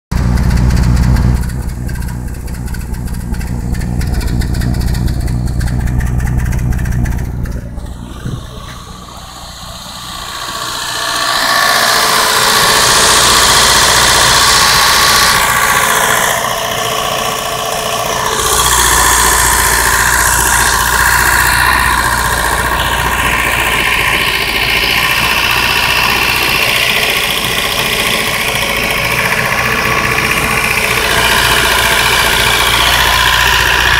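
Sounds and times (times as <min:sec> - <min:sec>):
car engine misfiring: 0:00.1 - 0:33.9.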